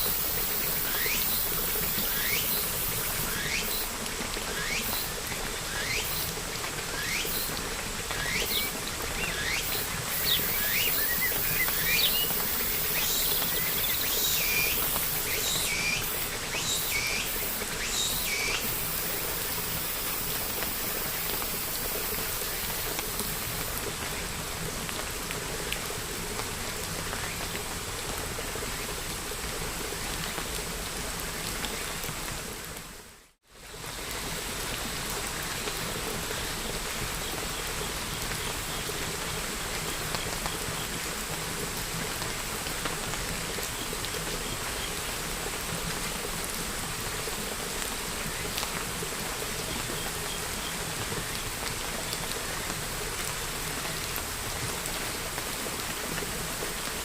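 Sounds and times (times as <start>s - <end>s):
rain patter: 0.0s - 57.0s.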